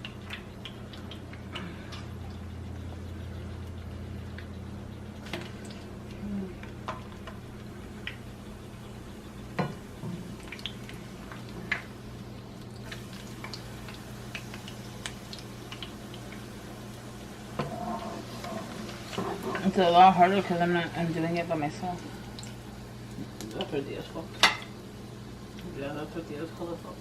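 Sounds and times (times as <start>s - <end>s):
steady low hum: 0.0s - 27.0s
tortillas frying in hot oil: 0.0s - 27.0s.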